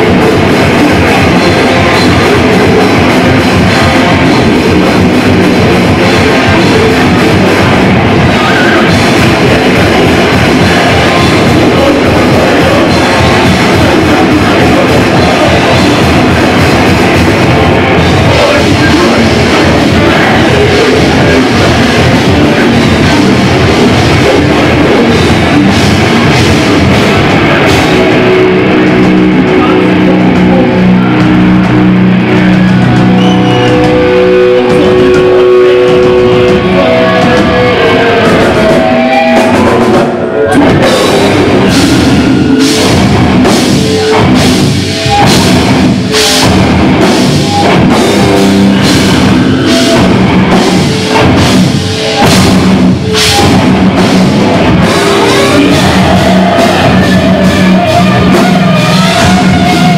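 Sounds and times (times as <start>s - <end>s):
drums playing hard and fast: 0.0s - 59.9s
electric guitar sustained notes: 0.0s - 59.9s.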